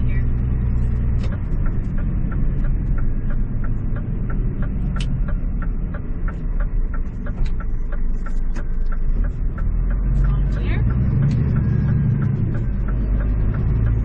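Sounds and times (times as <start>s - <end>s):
diesel engine rumbling: 0.0s - 14.0s
turn signal ticking: 0.0s - 14.0s.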